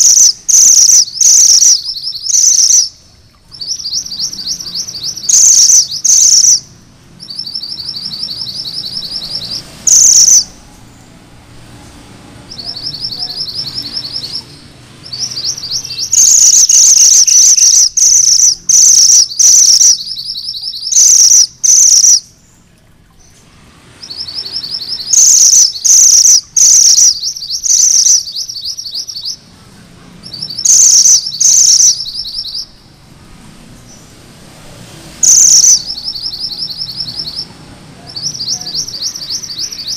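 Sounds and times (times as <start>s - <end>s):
bird sharp repeated chirps: 0.0s - 10.6s, 12.5s - 22.5s, 24.0s - 29.6s, 30.2s - 33.0s, 35.2s - 39.9s
bird high rolling trills: 0.0s - 11.1s, 12.5s - 22.6s, 24.0s - 29.5s, 30.2s - 32.9s, 35.2s - 39.9s.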